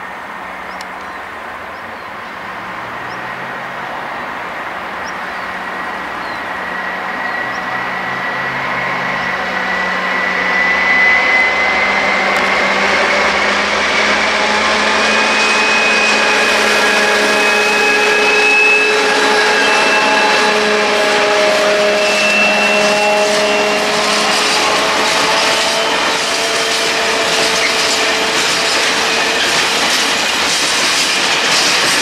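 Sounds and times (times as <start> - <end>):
diesel locomotive engine drone: 0.0 - 32.0
turbocharger whine: 1.6 - 30.6.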